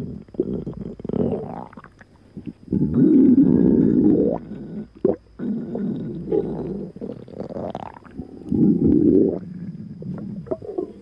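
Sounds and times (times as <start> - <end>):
stomach growling and gurgling: 0.0 - 11.0.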